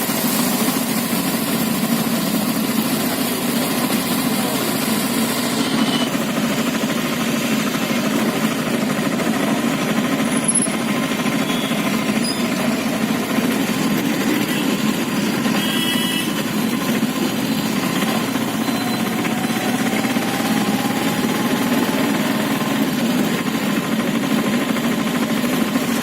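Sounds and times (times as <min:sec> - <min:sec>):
small engine running rattling: 0:00.0 - 0:26.0.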